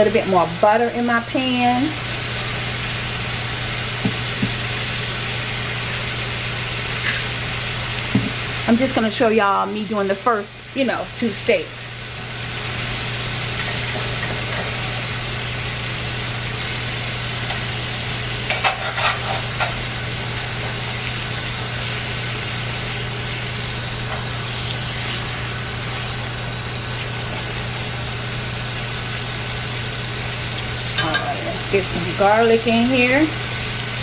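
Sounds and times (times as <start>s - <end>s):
steaks sizzling in a skillet: 0.0s - 34.0s.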